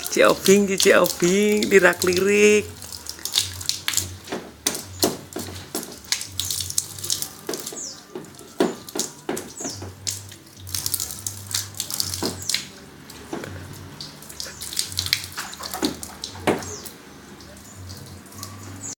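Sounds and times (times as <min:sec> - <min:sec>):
water splashing onto a car: 0:00.0 - 0:18.9.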